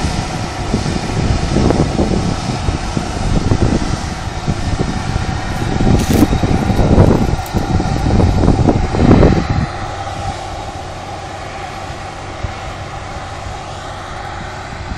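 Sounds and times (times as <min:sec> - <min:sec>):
combine harvester drone: 0:00.0 - 0:14.9
uneven low rumble: 0:00.0 - 0:14.9.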